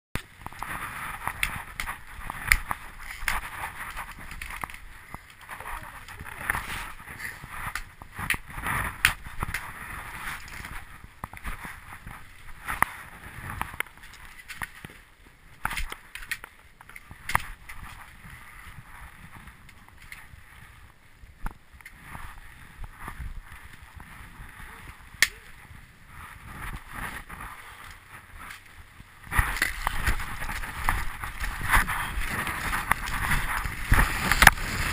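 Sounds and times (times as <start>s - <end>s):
gear rustling: 0.2s - 20.9s, 21.8s - 34.9s.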